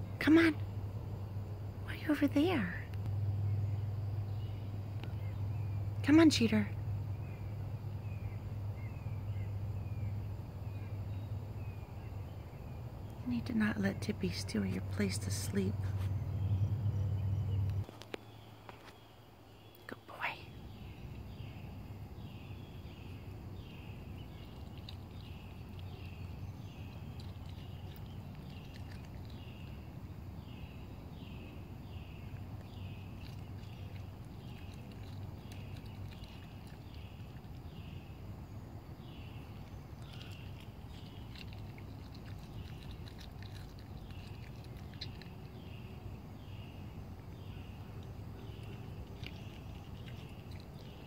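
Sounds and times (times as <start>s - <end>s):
low rumbling background: 0.0s - 51.0s.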